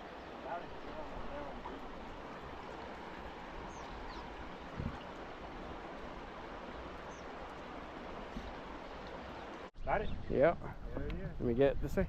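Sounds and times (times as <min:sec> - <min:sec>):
creek water rushing: 0:00.0 - 0:09.7.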